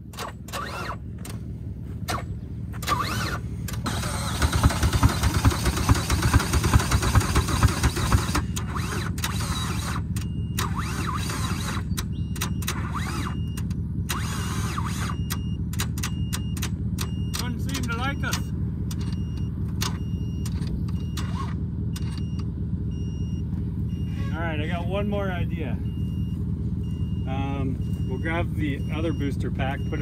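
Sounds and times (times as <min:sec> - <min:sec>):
car engine cranking by starter: 0:00.0 - 0:30.0.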